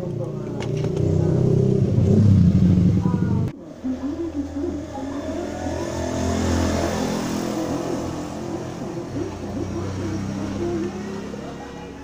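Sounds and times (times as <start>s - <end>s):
engine running with wavering pitch: 0.0s - 12.0s.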